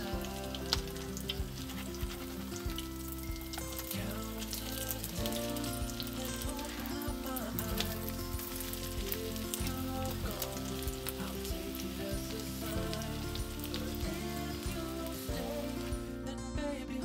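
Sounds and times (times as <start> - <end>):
background music: 0.0 - 17.0
oil sizzling and crackling: 0.0 - 17.0.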